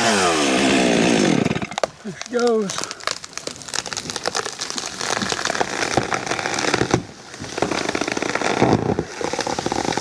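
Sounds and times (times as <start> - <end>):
branches cracking and snapping: 0.0 - 10.0.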